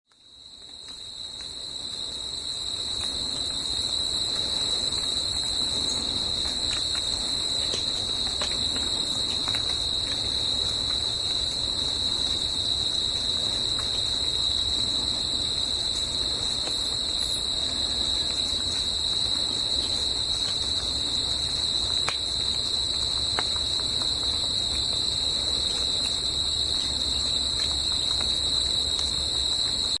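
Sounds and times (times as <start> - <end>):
crickets trilling: 0.2 - 30.0.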